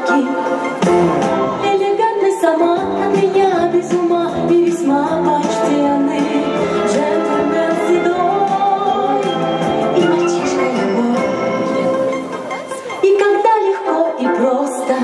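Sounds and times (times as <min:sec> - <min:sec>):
person singing: 0:00.0 - 0:09.4, 0:10.0 - 0:15.0
instrumental backing music: 0:00.0 - 0:15.0.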